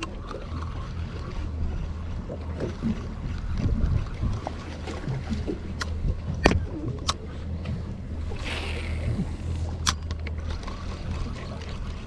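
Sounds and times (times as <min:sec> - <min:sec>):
outboard motors idling: 0:00.0 - 0:12.0.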